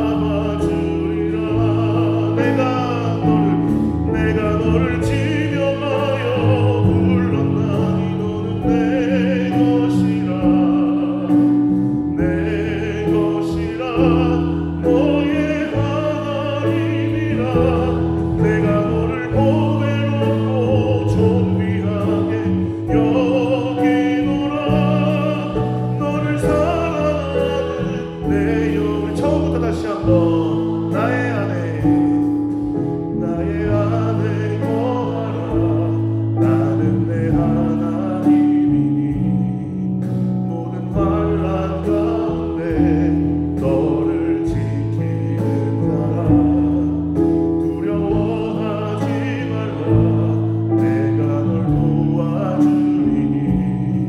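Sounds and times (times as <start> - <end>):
keyboard: 0.0 - 54.0.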